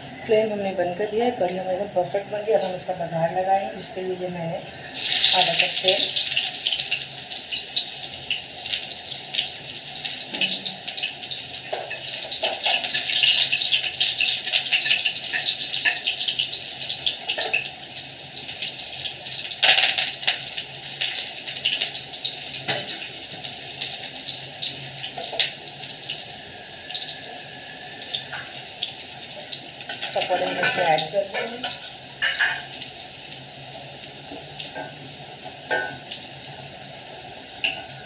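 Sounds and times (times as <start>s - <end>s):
hot oil sizzling and spattering: 4.9s - 38.0s.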